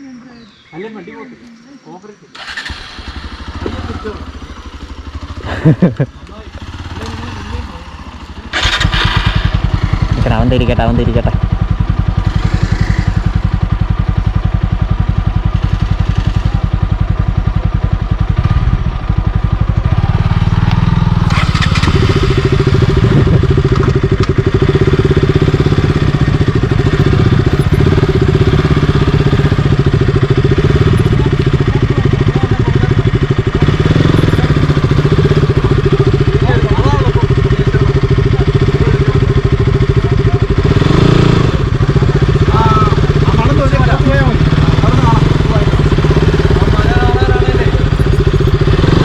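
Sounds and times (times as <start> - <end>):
motorcycle engine running: 2.4 - 49.0.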